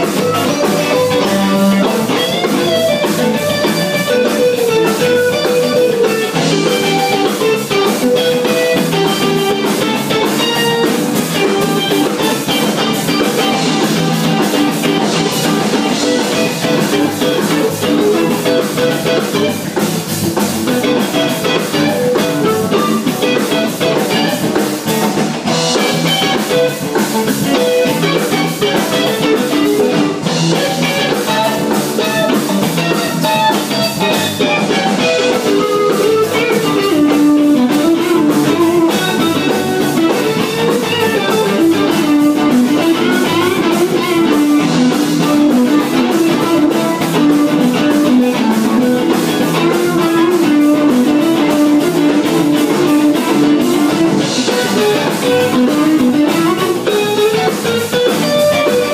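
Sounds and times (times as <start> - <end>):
bass: 0.0 - 58.9
drum kit: 0.0 - 58.9
guitar: 0.0 - 58.9.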